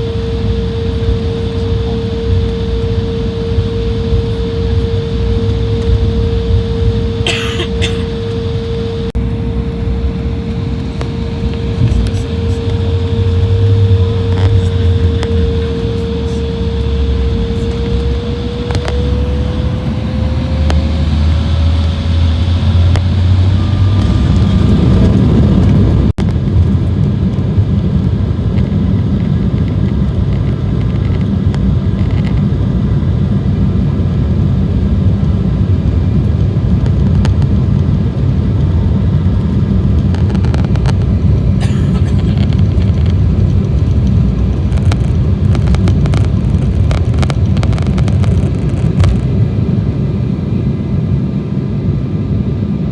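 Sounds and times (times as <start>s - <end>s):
jet engine whine and rumble: 0.0s - 52.9s.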